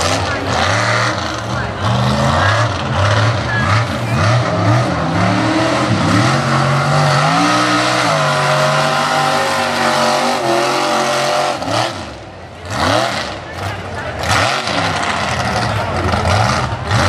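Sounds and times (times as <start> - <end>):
tires churning mud: 0.0 - 17.0
truck engine revving hard: 0.0 - 17.0.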